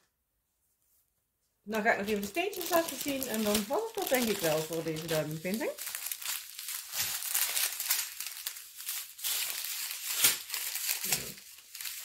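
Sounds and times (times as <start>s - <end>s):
plastic bags crinkling: 1.7s - 12.0s.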